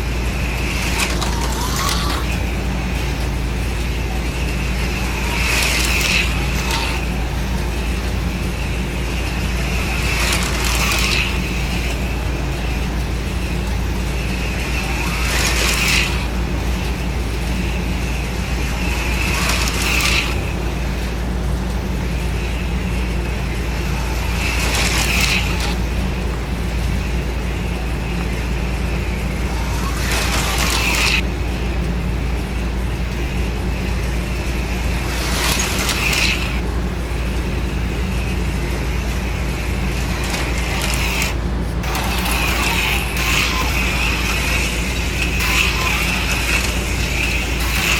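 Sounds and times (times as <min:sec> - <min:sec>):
slot cars whizzing past: 0:00.0 - 0:32.0, 0:32.6 - 0:47.9
steady low hum: 0:00.0 - 0:47.9.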